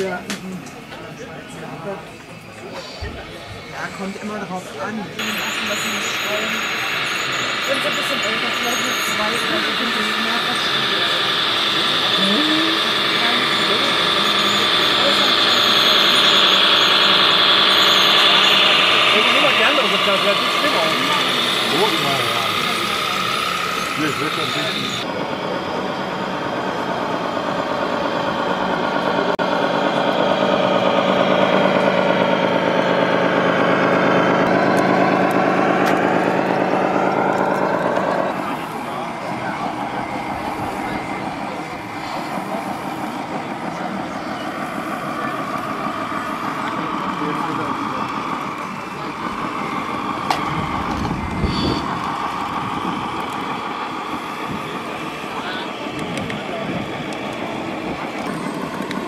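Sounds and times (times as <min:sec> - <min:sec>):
toy truck diesel engine sound: 0:00.0 - 0:59.0.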